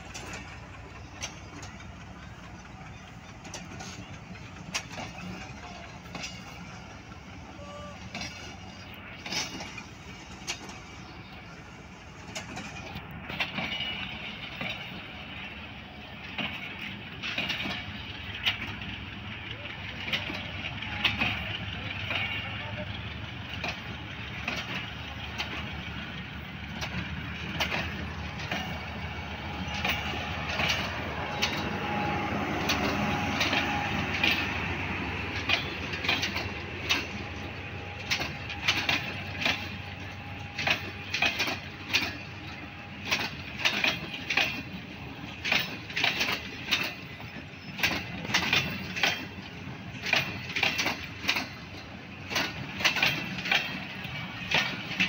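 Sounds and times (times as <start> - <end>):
train coaches rumbling: 0.0 - 55.0
wheels clacking over rail joints: 0.0 - 55.0.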